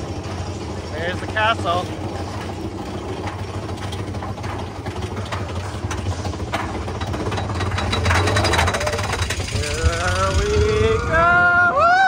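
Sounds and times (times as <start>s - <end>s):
roller coaster rumbling and clacking: 0.0s - 12.0s.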